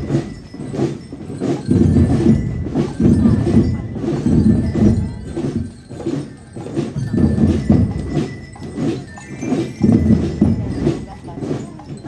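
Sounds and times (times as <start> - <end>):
faint bell lyre notes: 0.0 - 12.0
marching drums: 0.0 - 12.0.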